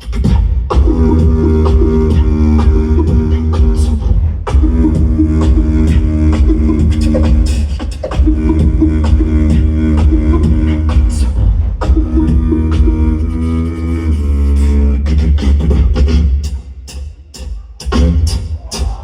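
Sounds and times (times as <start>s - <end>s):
beatboxed kicks and snares: 0.0s - 19.0s
hummed vocal bass line: 0.0s - 19.0s.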